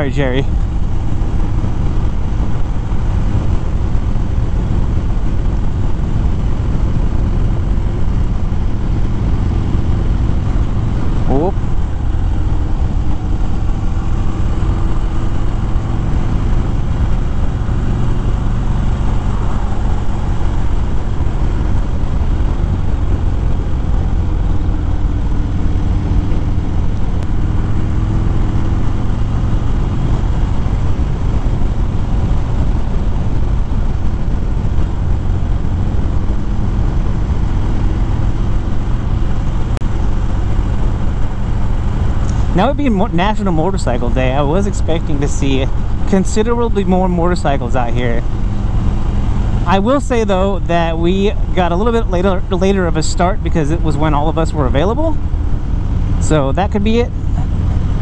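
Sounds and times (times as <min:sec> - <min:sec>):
motorcycle engine rumbling: 0:00.0 - 0:58.0
wind and road noise: 0:00.0 - 0:58.0.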